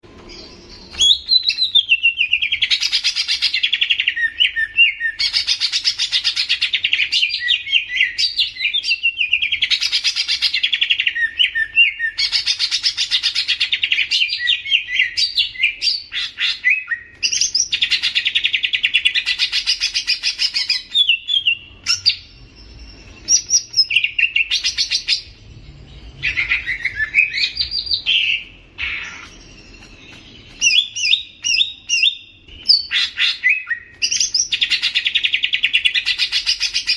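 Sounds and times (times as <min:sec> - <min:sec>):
bird warbling song: 0:00.1 - 0:36.9.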